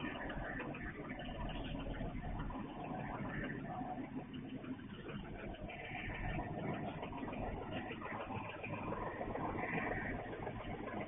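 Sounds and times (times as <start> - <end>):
diesel train rumble: 0.0 - 11.0.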